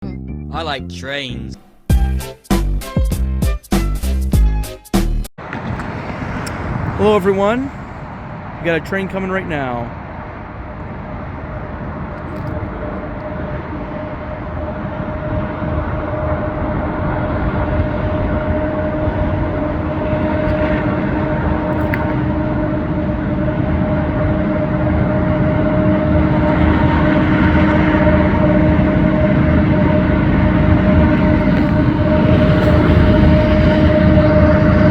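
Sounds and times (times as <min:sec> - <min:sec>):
diesel locomotive engine rumble: 0:05.4 - 0:34.9.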